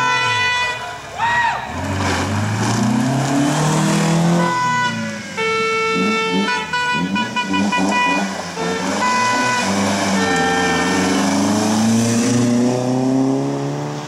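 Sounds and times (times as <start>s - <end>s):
horns blaring: 0.0s - 1.8s, 3.6s - 13.5s
car engine accelerating and revving: 1.7s - 14.0s.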